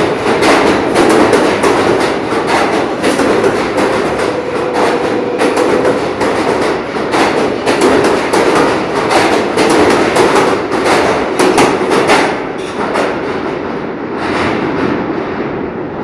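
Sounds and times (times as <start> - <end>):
subway wheels clacking over rail joints: 0.0 - 16.0.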